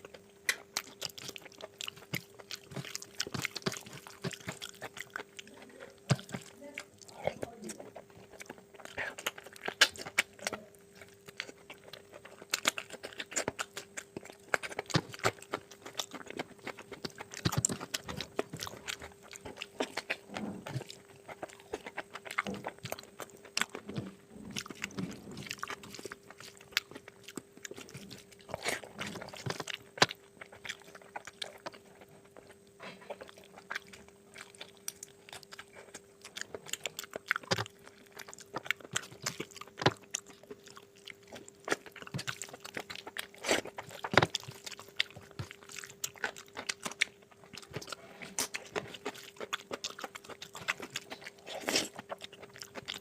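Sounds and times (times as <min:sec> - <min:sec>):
chewing with mouth clicks: 0:00.0 - 0:53.0
faint steady hum: 0:00.0 - 0:53.0.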